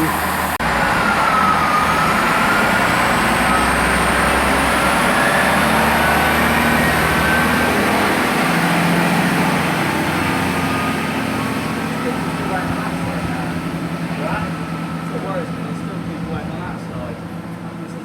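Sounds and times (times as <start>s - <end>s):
diesel train engines running: 0.0s - 18.0s.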